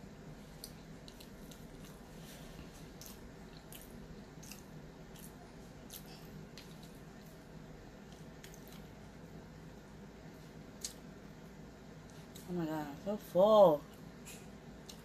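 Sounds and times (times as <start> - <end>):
person chewing food: 0.3 - 11.2, 13.9 - 15.0.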